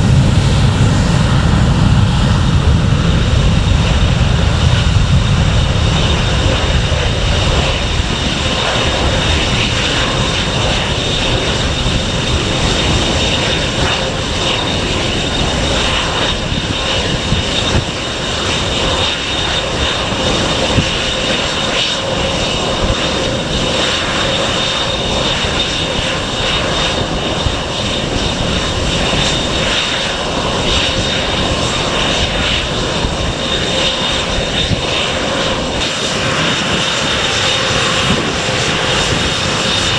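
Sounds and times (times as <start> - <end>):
jet engine whine and rush: 0.0 - 39.9.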